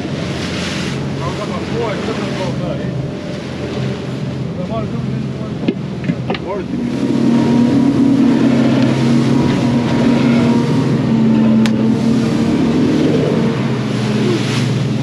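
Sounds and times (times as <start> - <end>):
boat engine humming: 0.0 - 15.0
water rushing along hull: 0.0 - 15.0.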